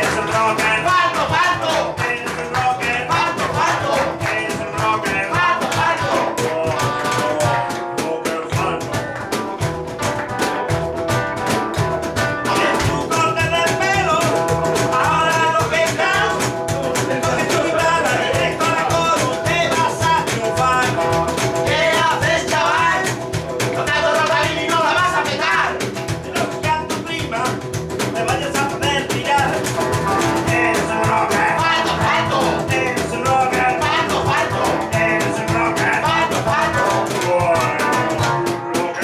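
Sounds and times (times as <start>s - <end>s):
man singing: 0.0s - 9.4s, 12.4s - 39.0s
strummed electric guitar: 0.0s - 39.0s.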